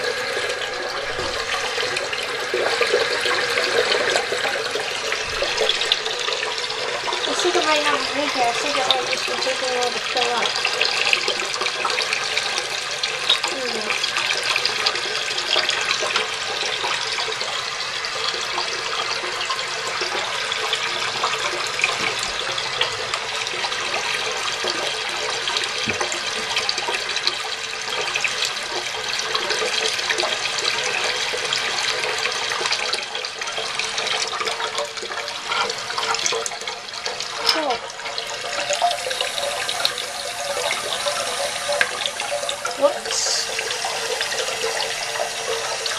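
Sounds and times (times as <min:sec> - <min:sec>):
toilet tank refilling: 0:00.0 - 0:45.9
water splashing into tank: 0:00.0 - 0:45.9.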